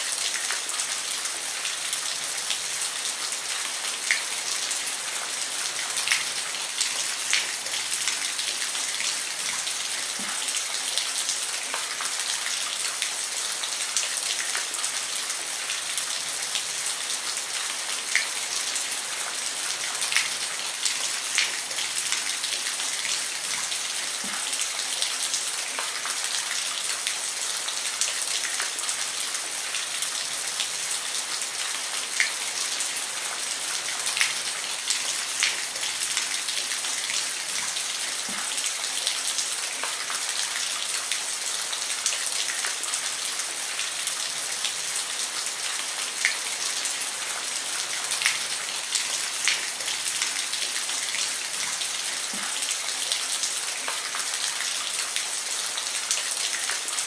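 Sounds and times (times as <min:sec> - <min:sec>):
rain falling on a roof: 0:00.0 - 0:57.0.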